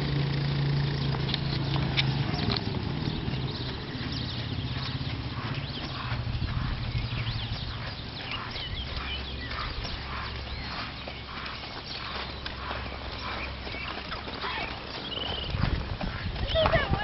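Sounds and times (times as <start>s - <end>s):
horse hoofbeats on sand: 0.0s - 17.0s
bird chirps: 1.0s - 16.7s.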